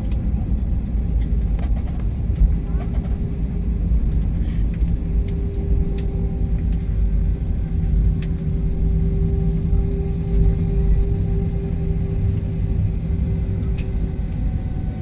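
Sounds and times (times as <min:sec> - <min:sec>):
jet cabin rumble: 0:00.0 - 0:15.0.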